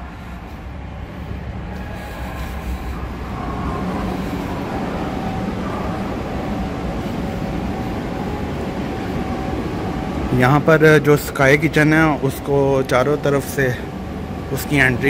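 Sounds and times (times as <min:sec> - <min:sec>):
air handling roar: 0:00.0 - 0:15.0
faint steady hum: 0:00.0 - 0:15.0.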